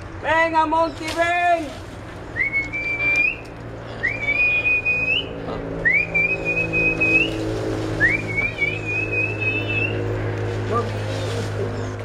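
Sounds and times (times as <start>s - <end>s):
steady low hum: 1.7s - 12.0s.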